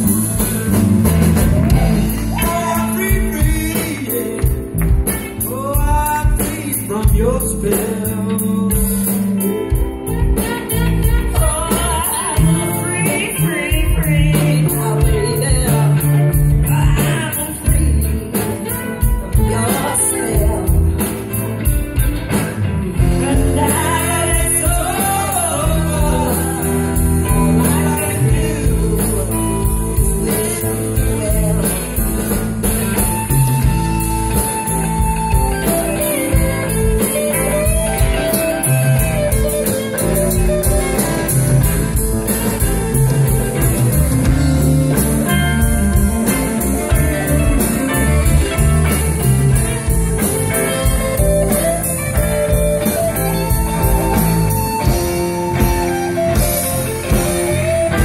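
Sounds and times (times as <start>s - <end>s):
live blues band playing: 0.0s - 58.0s
woman singing: 1.4s - 21.3s, 22.9s - 41.0s, 44.1s - 54.0s.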